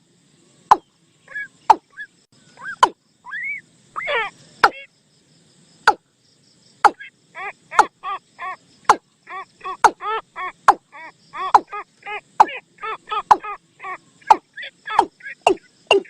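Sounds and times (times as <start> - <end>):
recorded bird call notes: 0.4 - 5.0, 6.7 - 16.0.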